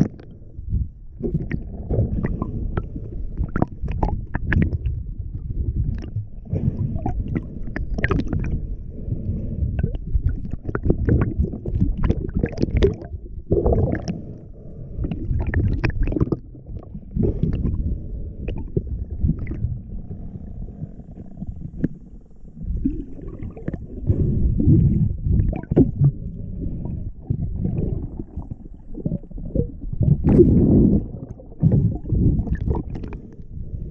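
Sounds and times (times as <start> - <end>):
muffled underwater rumble: 0.0 - 33.9
water gurgle: 0.0 - 33.9.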